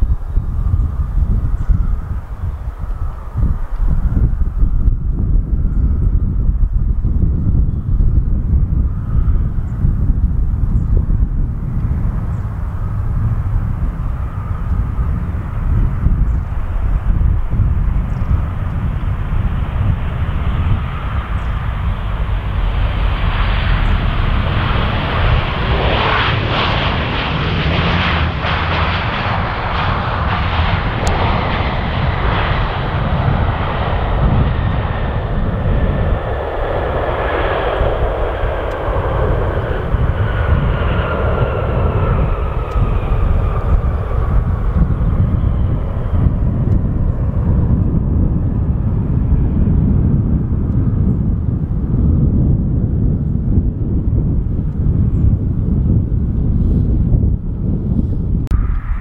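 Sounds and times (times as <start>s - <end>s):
jet engines at high power: 0.0s - 59.0s.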